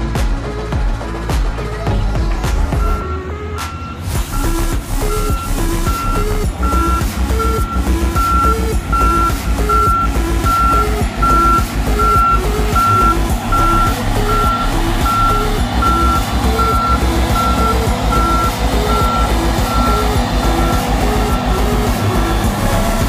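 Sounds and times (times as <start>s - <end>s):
diesel engine running: 0.0s - 23.0s
reversing alarm beeping: 2.8s - 23.0s.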